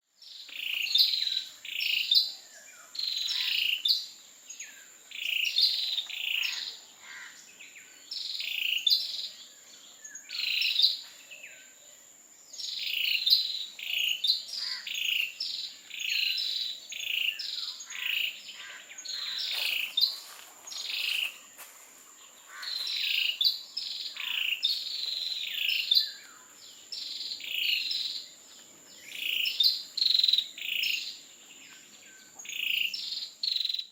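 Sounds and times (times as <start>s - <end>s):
high insect whine: 0.2s - 33.8s.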